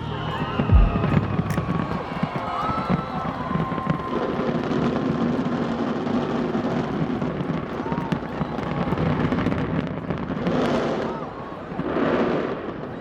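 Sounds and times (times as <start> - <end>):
crowd voices: 0.0 - 13.0
fireworks crackling and bursting: 0.6 - 13.0.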